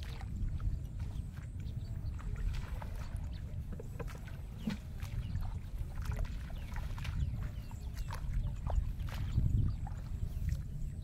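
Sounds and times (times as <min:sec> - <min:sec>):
small clicks and splashes: 0:00.0 - 0:10.6
footsteps splashing through water: 0:00.0 - 0:11.0
wind rumble on microphone: 0:00.0 - 0:11.0.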